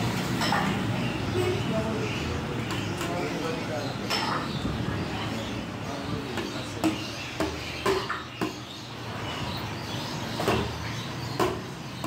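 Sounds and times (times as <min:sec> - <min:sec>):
background hubbub: 0:00.0 - 0:12.0.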